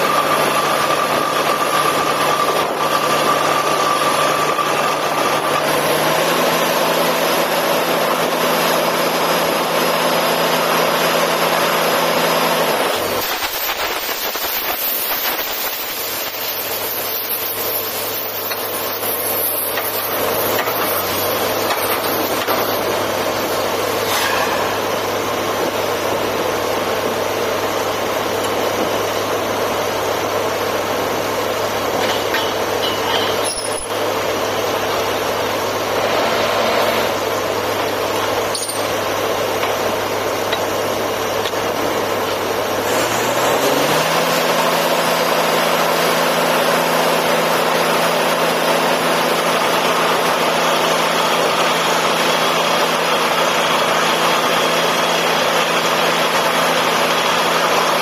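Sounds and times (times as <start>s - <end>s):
drilling rig running: 0.0s - 58.0s.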